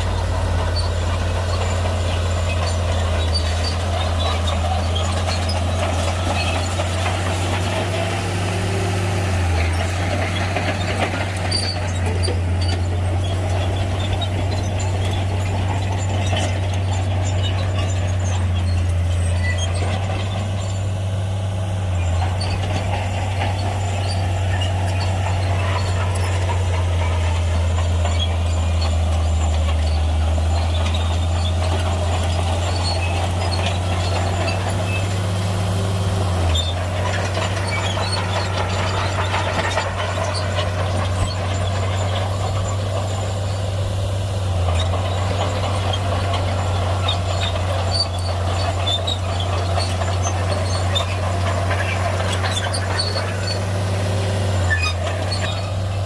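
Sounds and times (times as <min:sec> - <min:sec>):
bulldozer diesel engine droning: 0:00.0 - 0:56.0
machine clanks: 0:00.0 - 0:56.0.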